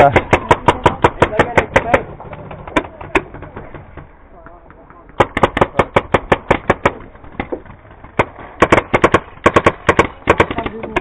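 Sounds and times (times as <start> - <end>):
paintball marker firing: 0.0 - 11.0.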